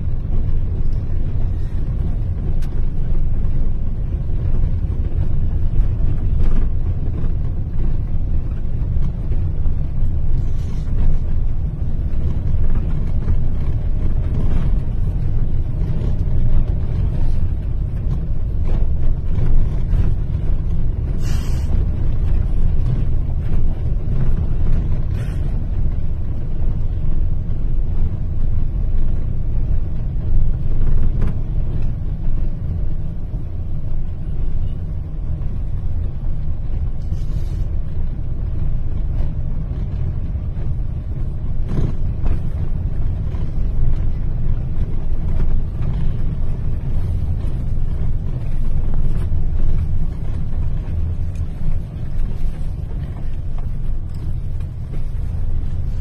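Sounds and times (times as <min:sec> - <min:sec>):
car engine: 0:00.0 - 0:56.0
road noise: 0:00.0 - 0:56.0.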